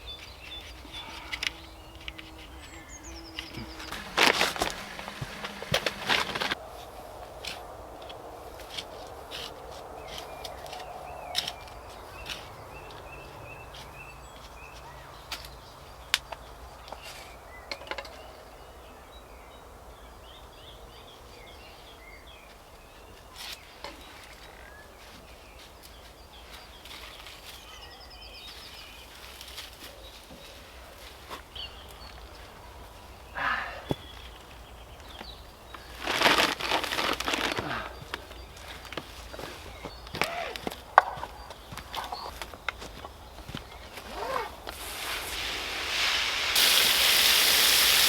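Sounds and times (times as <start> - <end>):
faint birds chirping: 0.0 - 48.0
outdoor background noise: 0.0 - 48.0.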